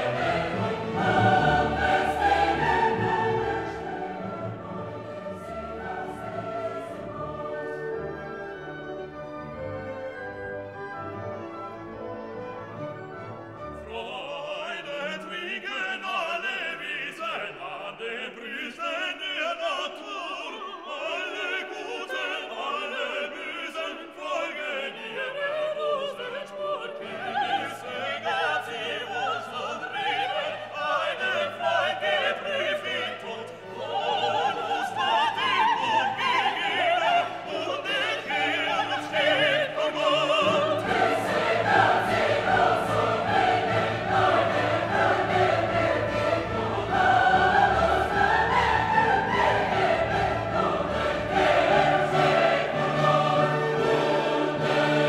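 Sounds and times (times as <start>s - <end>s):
operatic singing with orchestra: 0.0s - 55.0s.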